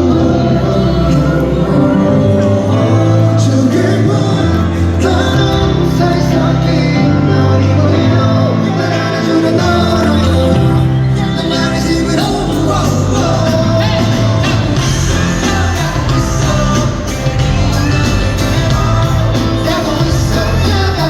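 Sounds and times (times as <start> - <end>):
live pop band playing: 0.0 - 21.0
person singing: 0.0 - 21.0.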